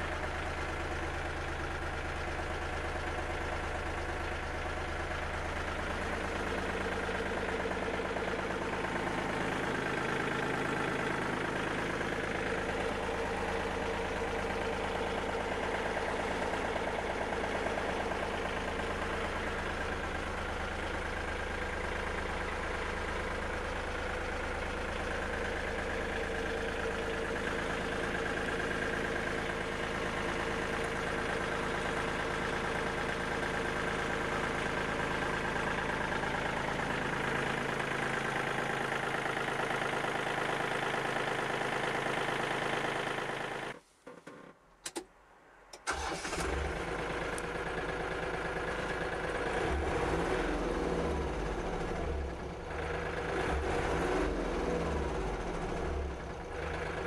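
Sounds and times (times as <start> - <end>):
tractor diesel engine idling: 0.0 - 43.8, 44.7 - 57.0.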